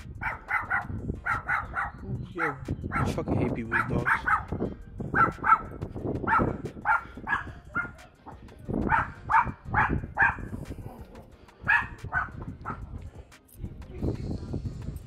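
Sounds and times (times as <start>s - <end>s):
dog barking: 0.1s - 2.0s, 2.9s - 13.0s.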